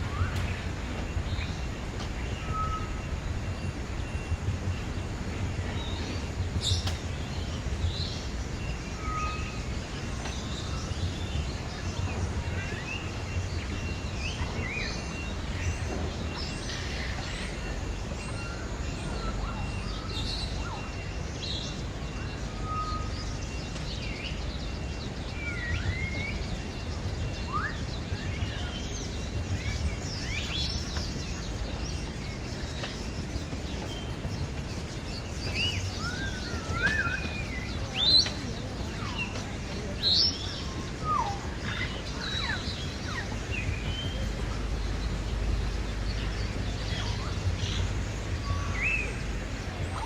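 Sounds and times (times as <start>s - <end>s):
birds chirping and calling: 0.0s - 50.0s
low background noise: 0.0s - 50.0s.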